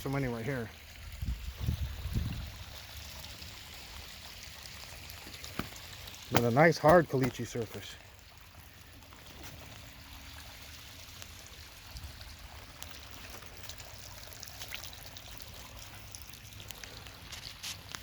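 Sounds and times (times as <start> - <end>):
rain runoff trickling: 0.0 - 18.0
water drips and ticks: 0.0 - 18.0.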